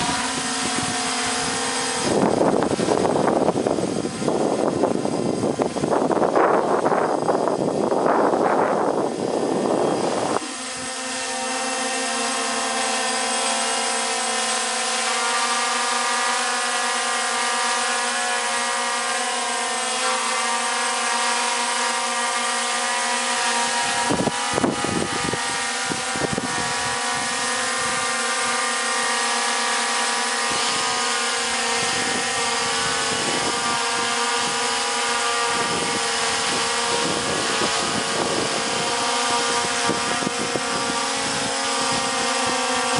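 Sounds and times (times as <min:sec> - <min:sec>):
drone buzzing whine: 0:00.0 - 0:42.9.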